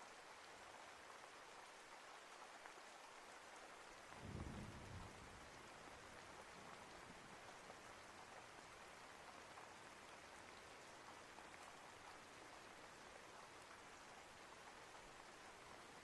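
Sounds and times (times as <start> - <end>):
faint steady rainfall: 0.0 - 16.0
soft raindrop ticks: 0.0 - 16.0.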